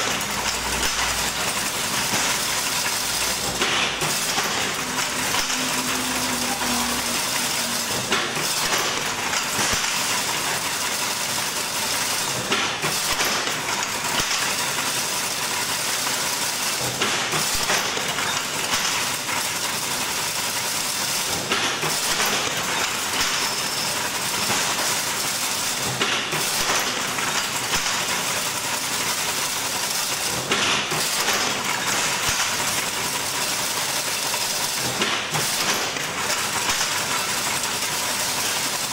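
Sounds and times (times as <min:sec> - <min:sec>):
fence weaving machine running: 0:00.0 - 0:38.9.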